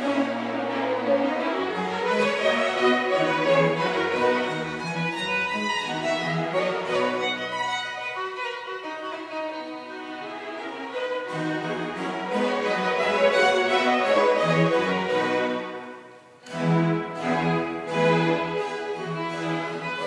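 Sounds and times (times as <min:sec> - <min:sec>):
solo violin: 0:00.0 - 0:20.0
string chamber orchestra: 0:00.0 - 0:20.0.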